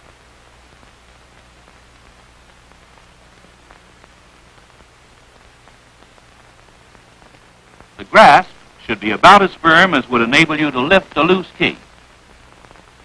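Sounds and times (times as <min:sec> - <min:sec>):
film soundtrack hiss and crackle: 0:00.0 - 0:13.0.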